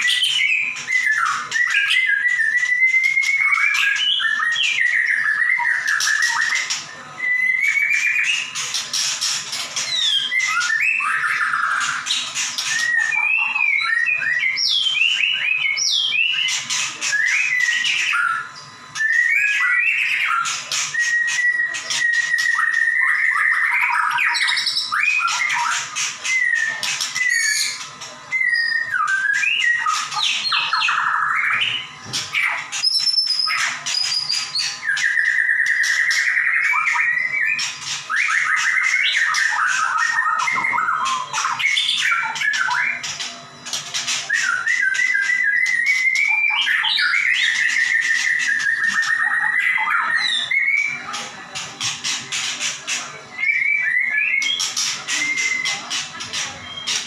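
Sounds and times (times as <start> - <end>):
songbird whistling and trilling: 0.0 - 57.0.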